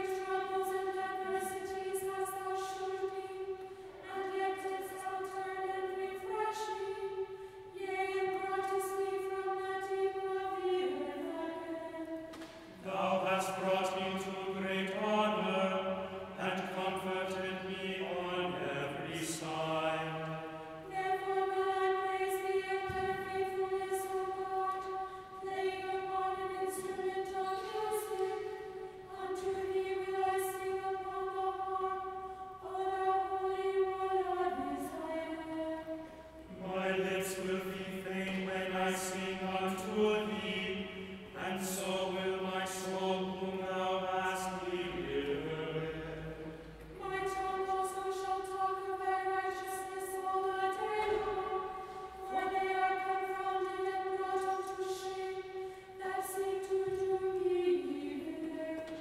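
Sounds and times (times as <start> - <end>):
choir chanting: 0.0 - 59.0.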